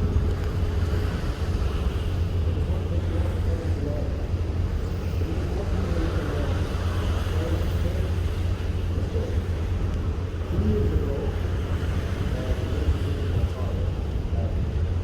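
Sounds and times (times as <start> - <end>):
faint voices: 0.0 - 15.0
low rumble on a ship: 0.0 - 15.0.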